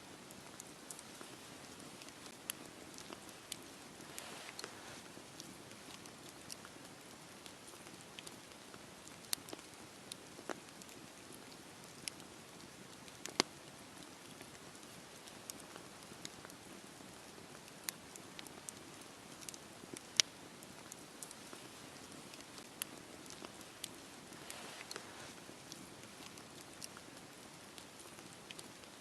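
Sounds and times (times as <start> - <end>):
burning wood crackling and popping: 0.0 - 29.0
campfire hissing: 0.0 - 29.0.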